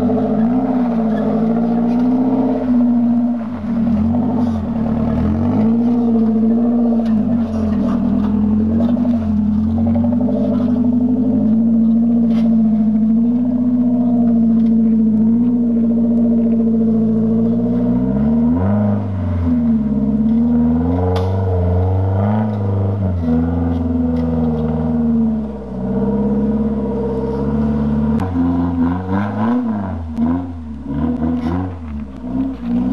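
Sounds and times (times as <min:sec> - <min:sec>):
off-road engine revving: 0:00.0 - 0:32.9.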